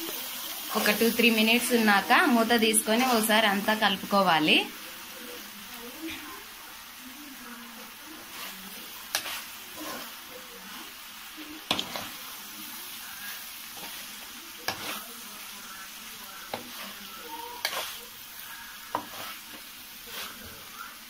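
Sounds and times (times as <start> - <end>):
curry sizzling: 0.0 - 21.0.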